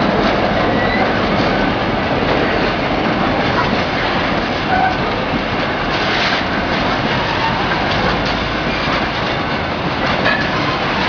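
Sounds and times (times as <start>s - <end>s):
train wheels running over rails: 0.0s - 11.0s.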